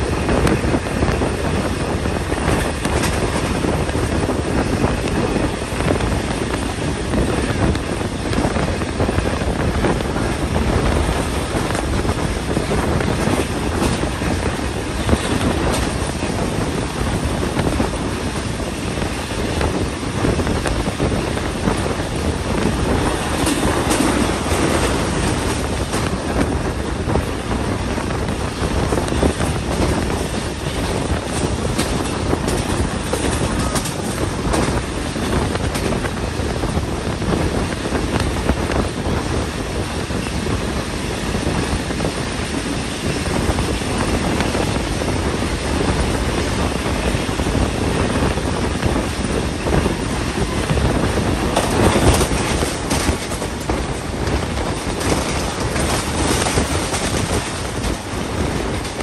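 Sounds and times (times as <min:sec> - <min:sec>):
train wheels rumbling on rail: 0:00.0 - 0:59.0
wind noise: 0:00.0 - 0:59.0.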